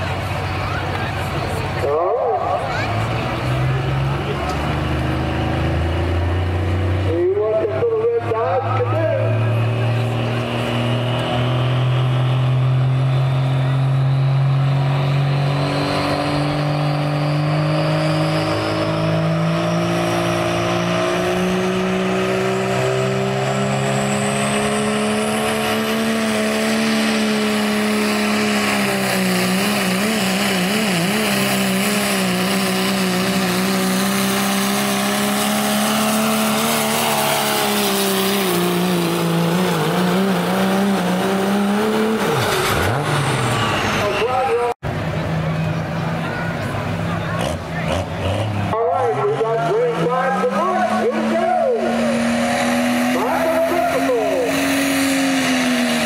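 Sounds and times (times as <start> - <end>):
diesel truck engine at full throttle: 0.0 - 56.0.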